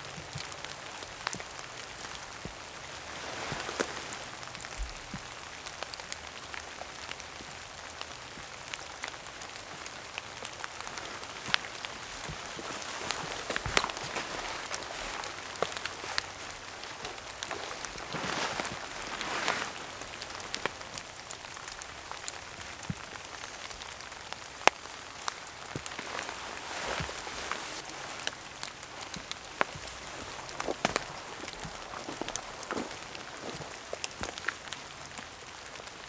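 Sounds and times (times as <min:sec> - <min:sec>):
heavy rain falling: 0:00.0 - 0:36.0
raindrops ticking sharply: 0:04.0 - 0:36.0.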